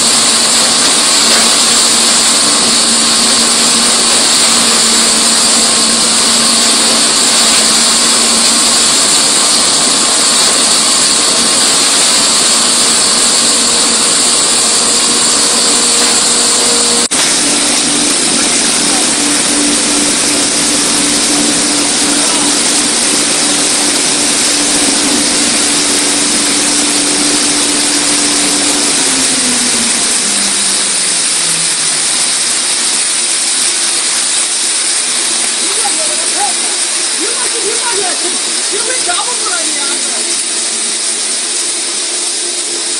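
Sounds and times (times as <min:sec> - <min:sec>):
hiss of blown air: 0:00.0 - 0:42.9
motor hum: 0:00.0 - 0:42.9.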